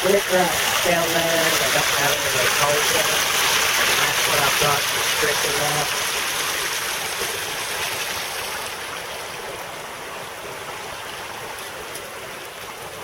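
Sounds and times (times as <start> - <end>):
creek water rushing over dam: 0.0 - 13.0.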